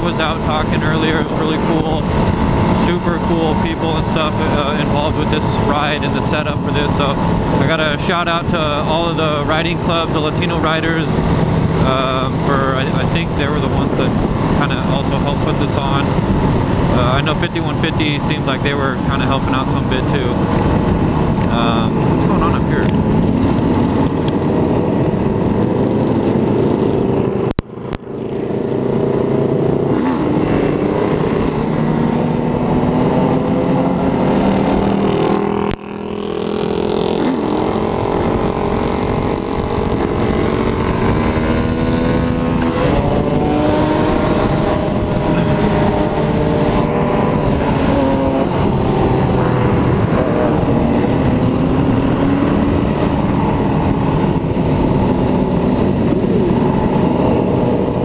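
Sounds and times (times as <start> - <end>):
motorcycle engine running: 0.0 - 58.0
rushing wind: 0.0 - 58.0.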